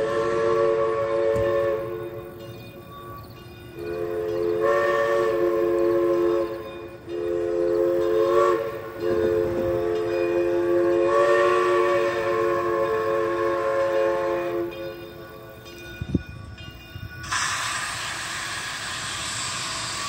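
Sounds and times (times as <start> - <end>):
steam whistle blasts: 0.0 - 2.4, 3.8 - 15.3, 17.2 - 20.0.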